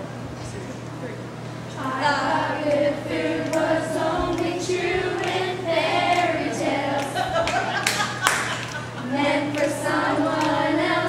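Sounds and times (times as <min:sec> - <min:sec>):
girls singing unaccompanied: 0:01.8 - 0:11.0.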